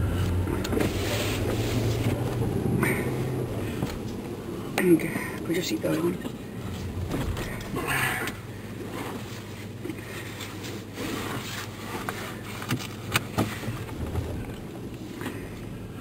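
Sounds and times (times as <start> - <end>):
engine humming inside cabin: 0.0 - 16.0.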